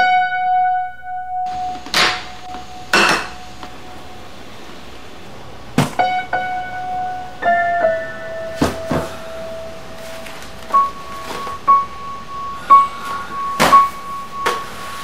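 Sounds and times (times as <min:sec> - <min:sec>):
slow piano music: 0:00.0 - 0:05.1, 0:06.0 - 0:15.0.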